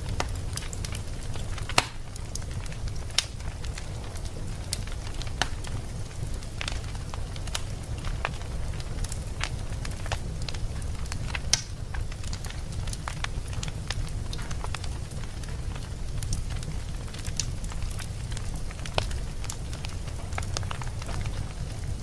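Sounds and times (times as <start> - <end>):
fire crackling and popping: 0.0 - 22.0
low fire rumble: 0.0 - 22.0.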